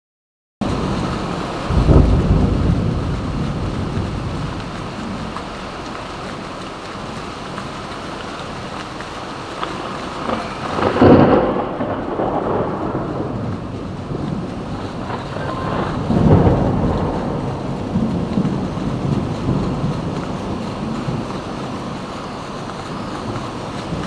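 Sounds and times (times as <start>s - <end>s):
rolling thunder: 0.6s - 7.2s, 9.6s - 24.0s
heavy rain: 0.6s - 24.0s.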